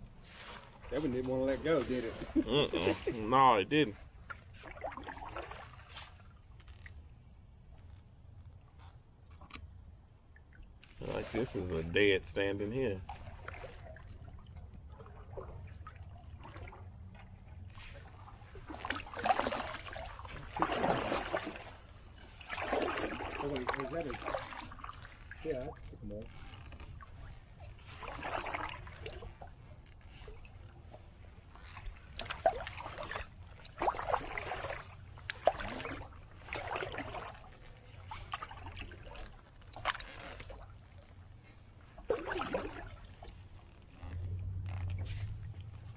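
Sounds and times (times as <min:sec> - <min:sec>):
paddle splashing in water: 0:00.0 - 0:45.9.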